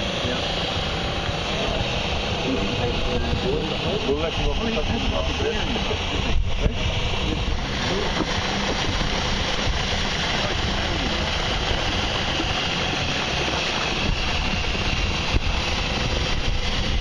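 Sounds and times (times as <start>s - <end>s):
motor running: 0.0s - 17.0s.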